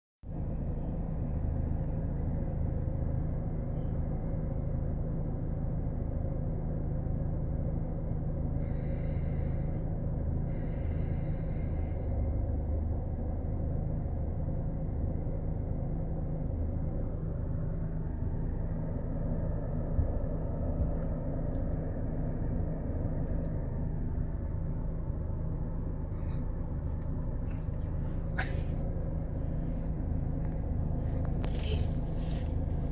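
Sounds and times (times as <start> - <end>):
car driving rumble: 0.2 - 32.9.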